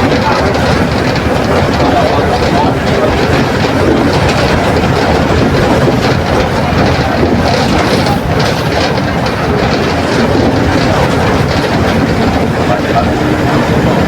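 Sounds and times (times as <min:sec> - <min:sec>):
bus engine running: 0:00.0 - 0:14.0.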